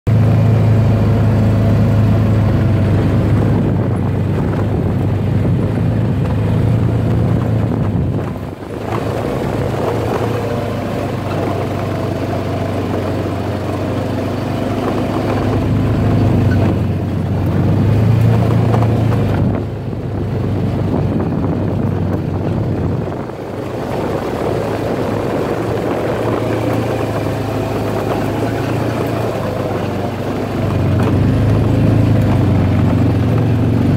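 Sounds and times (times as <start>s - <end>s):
utility vehicle engine running: 0.1s - 33.9s.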